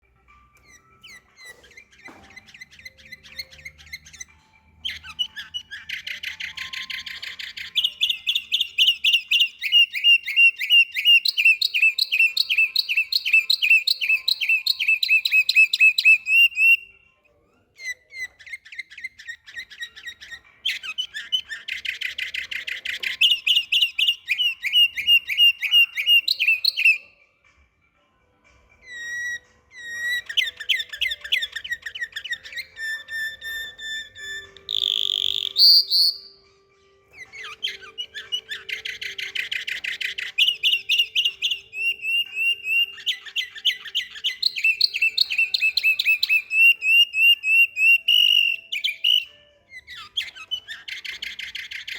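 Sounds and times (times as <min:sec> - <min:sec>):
canary singing trills: 0:00.0 - 0:27.2, 0:28.7 - 0:51.9.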